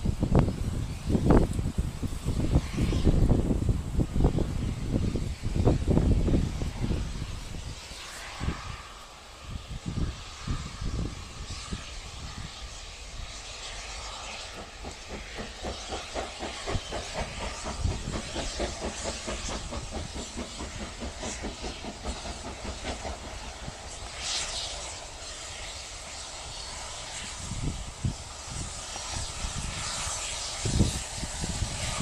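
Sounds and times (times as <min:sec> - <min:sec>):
steam hissing: 0:00.0 - 0:32.0
steam locomotive chuffing: 0:00.0 - 0:32.0.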